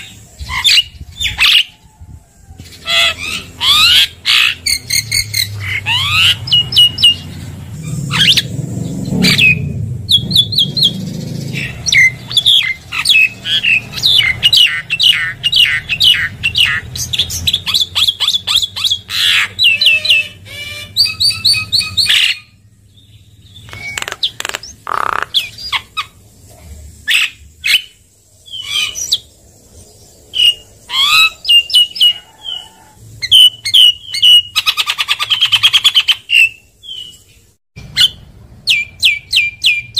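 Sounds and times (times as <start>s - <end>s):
bird singing chirps and whistles: 0.0s - 1.8s, 2.8s - 24.8s, 27.0s - 32.6s, 33.2s - 39.9s.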